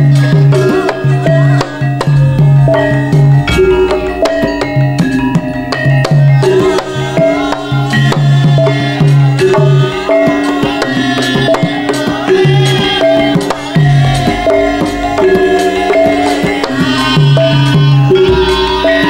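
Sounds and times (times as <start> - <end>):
gamelan music: 0.0 - 19.0
hand drum rhythm: 0.0 - 19.0.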